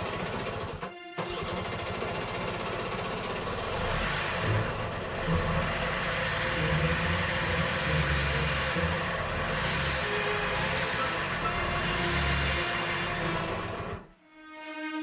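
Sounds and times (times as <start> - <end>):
two-stroke engine running unevenly: 0.0 - 14.1.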